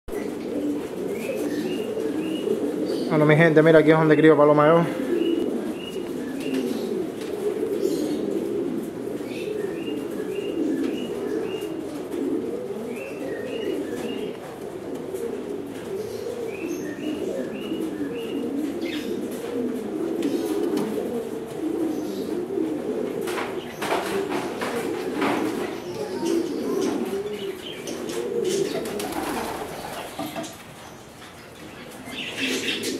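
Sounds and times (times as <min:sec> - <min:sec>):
pigeons cooing: 0:00.1 - 0:32.9.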